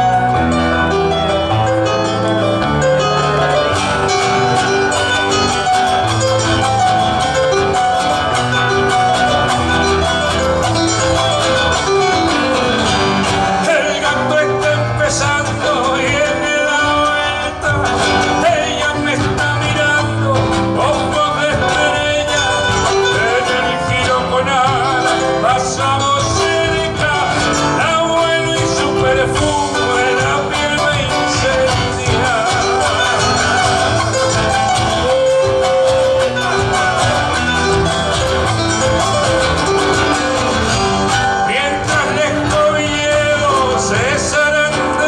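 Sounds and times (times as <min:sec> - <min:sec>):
acoustic guitars strumming: 0:00.0 - 0:45.0.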